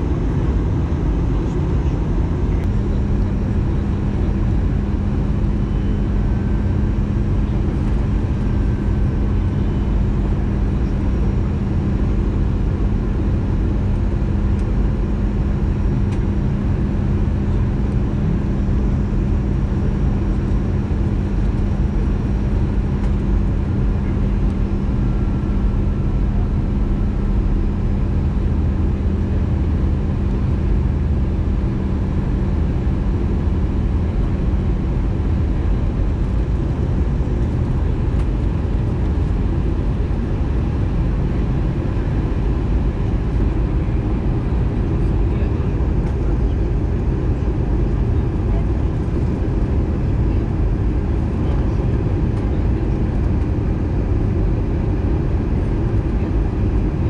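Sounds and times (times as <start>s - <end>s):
airplane cabin rumble: 0.0s - 57.0s
steady low hum: 0.0s - 57.0s.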